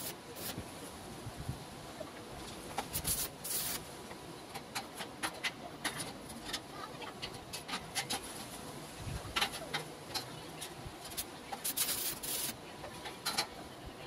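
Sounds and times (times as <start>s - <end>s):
low workshop background: 0.0s - 14.0s.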